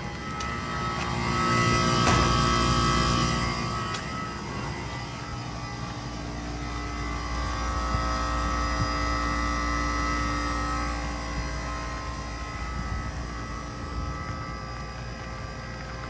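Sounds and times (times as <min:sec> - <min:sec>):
heat pump humming: 0:00.0 - 0:16.0.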